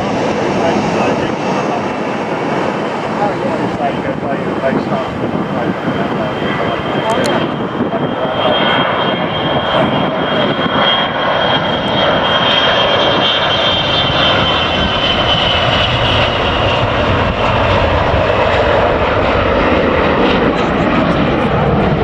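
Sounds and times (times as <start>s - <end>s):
jet engines with falling whine: 0.0s - 22.0s.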